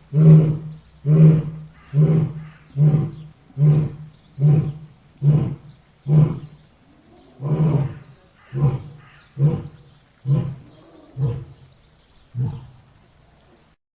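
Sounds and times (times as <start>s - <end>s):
lion grunting calls: 0.1s - 11.7s, 12.3s - 12.9s.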